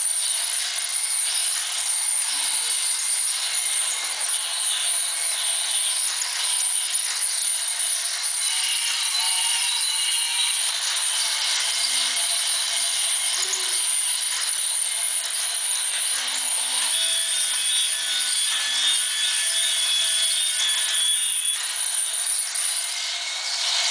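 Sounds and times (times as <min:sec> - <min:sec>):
toy train motors whirring: 0:00.0 - 0:23.9.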